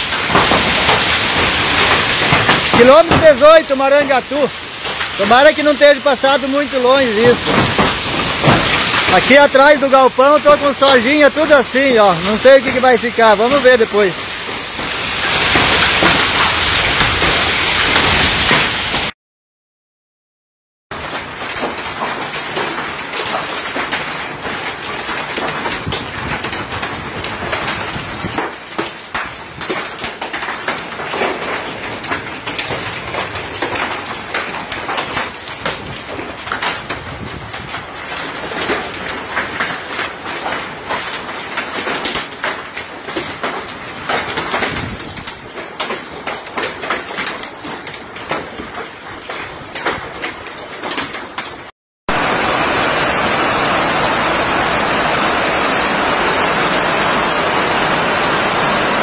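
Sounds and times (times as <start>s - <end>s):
hail and rain pelting roof: 0.0s - 19.1s, 20.9s - 59.0s.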